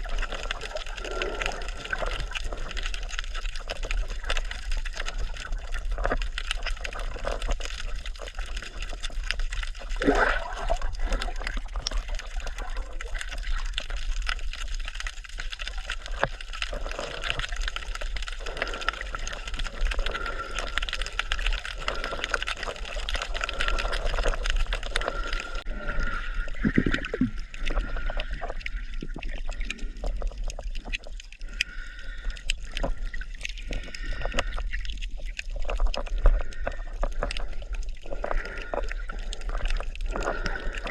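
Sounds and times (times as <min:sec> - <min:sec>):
small clicks and splashes: 0:00.0 - 0:40.9
water sloshing and gurgling: 0:00.0 - 0:40.9.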